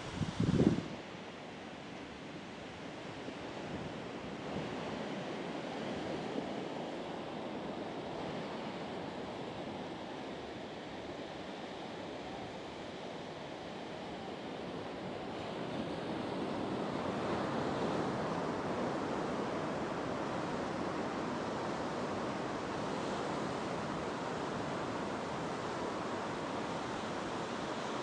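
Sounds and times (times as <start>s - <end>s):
ocean surf breaking on beach: 3.0s - 28.0s.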